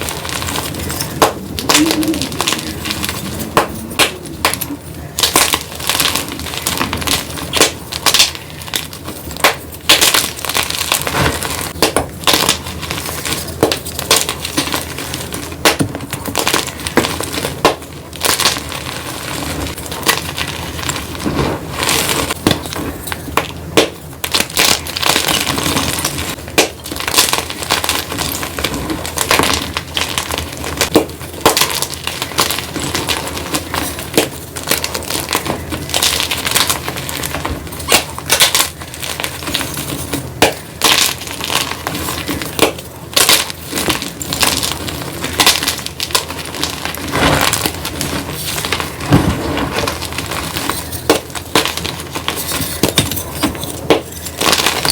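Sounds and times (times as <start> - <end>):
chalk crumbling and cracking: 0.0 - 54.9.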